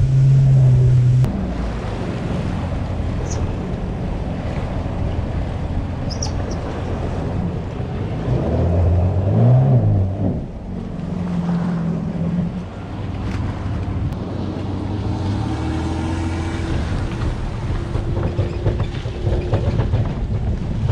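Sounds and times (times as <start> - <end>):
low engine hum: 0.0 - 20.9
wind rumble on microphone: 0.0 - 20.9.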